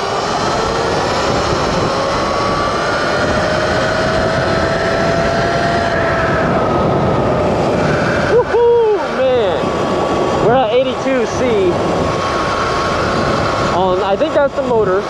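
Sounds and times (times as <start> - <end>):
electric motor whine: 0.0 - 15.0
wind rushing: 0.0 - 15.0.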